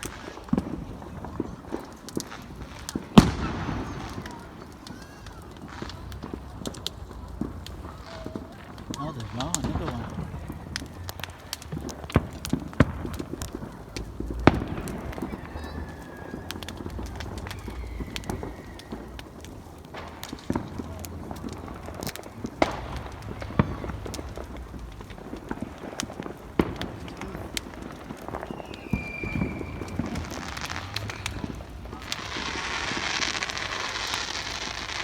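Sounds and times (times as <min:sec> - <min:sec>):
fireworks bangs and pops: 0:00.0 - 0:35.0
fireworks crackling hiss: 0:00.0 - 0:35.0.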